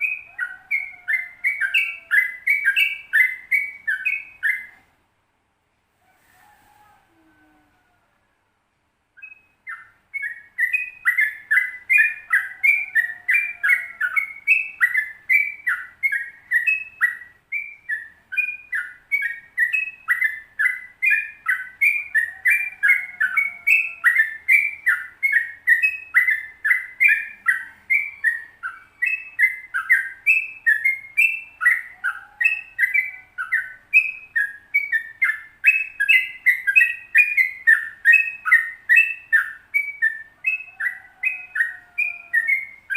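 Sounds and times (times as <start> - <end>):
bulbul singing chirpy notes: 0.0 - 4.8, 9.2 - 42.9.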